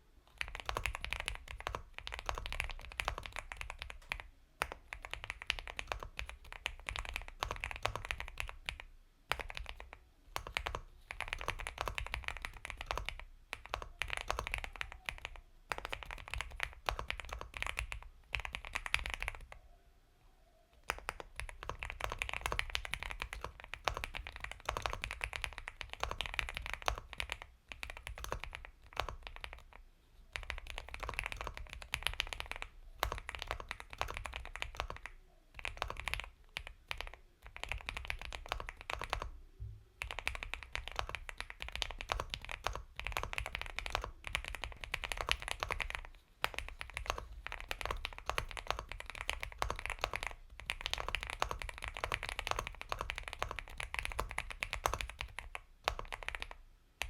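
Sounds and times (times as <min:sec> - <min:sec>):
mechanical keyboard typing: 0:00.3 - 0:19.6, 0:20.8 - 0:39.4, 0:40.0 - 0:56.6.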